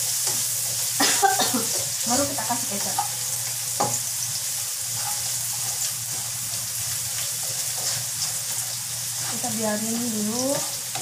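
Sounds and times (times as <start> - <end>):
food sizzling in a wok: 0.0 - 11.0
spatula scraping pan: 1.6 - 11.0.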